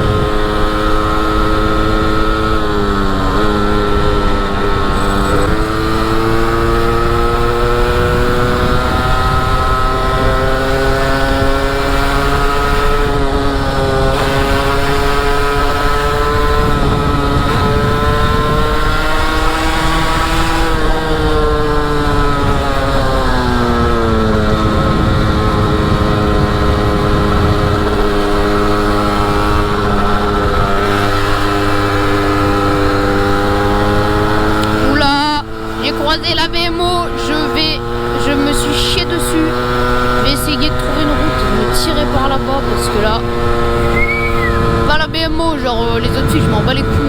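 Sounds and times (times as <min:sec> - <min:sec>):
motorcycle engine running: 0:00.0 - 0:47.0
wind rumble on microphone: 0:00.0 - 0:47.0.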